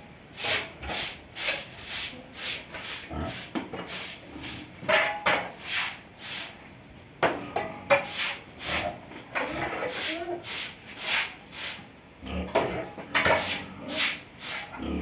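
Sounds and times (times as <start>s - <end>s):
broom scraping concrete floor: 0.0s - 6.7s, 7.9s - 11.9s, 12.7s - 15.0s.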